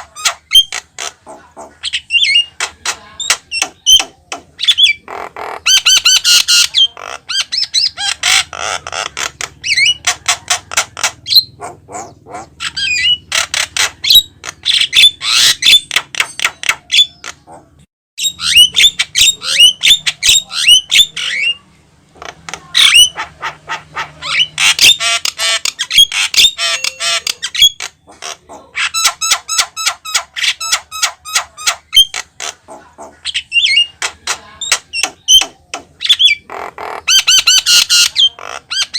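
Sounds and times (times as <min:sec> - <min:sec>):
myna bird singing: 0:00.0 - 0:38.9.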